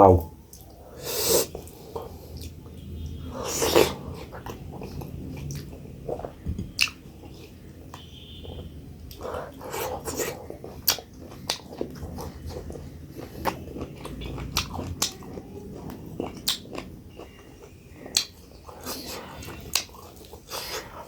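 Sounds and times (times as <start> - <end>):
wet chewing: 0.4 - 21.0.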